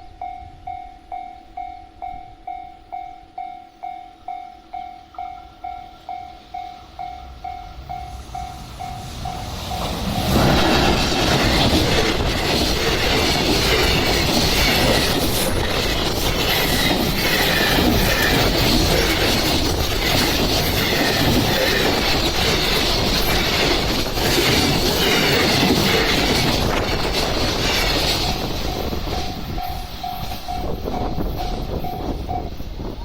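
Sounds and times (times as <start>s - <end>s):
train wheels clattering: 5.1s - 33.0s.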